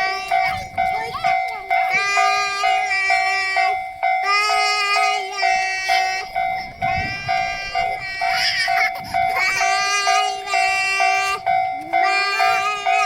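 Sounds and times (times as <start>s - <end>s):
level crossing warning bell ringing: 0.0s - 13.0s.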